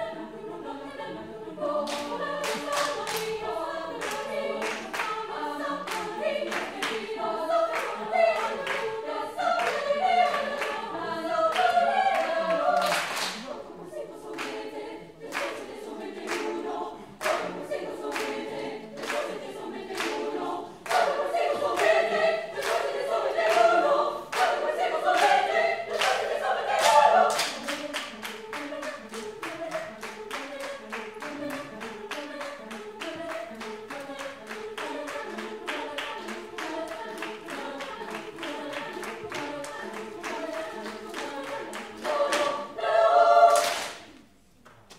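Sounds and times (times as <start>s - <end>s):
girls' choir singing a cappella: 0.0s - 44.6s.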